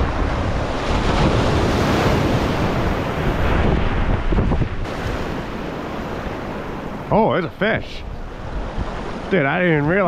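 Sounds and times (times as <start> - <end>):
waves breaking on rocks: 0.0 - 10.0
wind buffeting microphone: 0.0 - 10.0.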